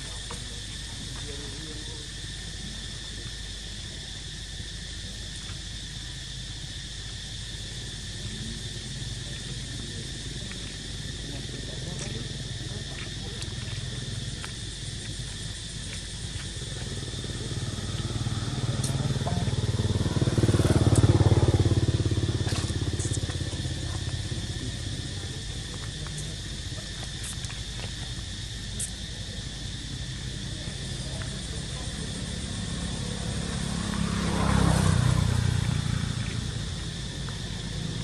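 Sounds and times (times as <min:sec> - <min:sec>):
vehicles passing by: 0:00.3 - 0:38.0.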